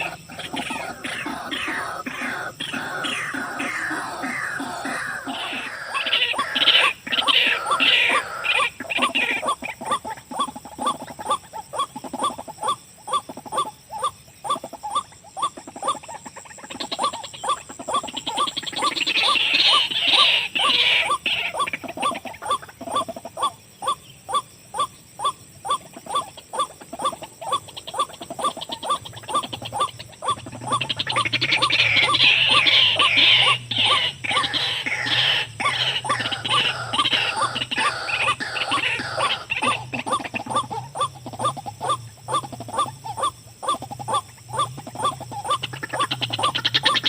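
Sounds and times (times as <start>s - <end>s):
waterhen calling: 0.0s - 47.0s.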